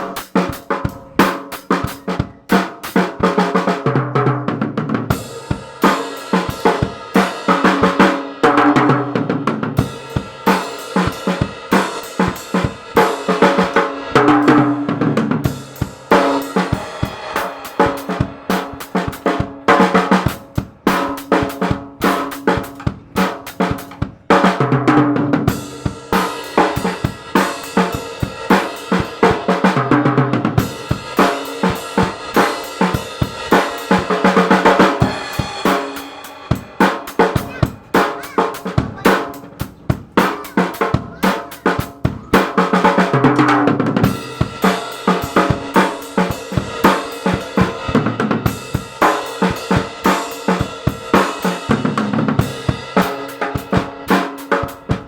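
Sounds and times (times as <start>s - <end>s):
drum kit beat: 0.0s - 55.0s.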